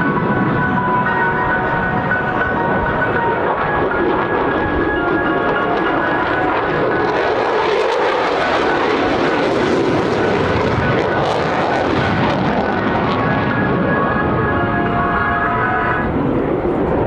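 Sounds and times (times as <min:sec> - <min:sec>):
jet fighter passing: 0:00.0 - 0:17.0.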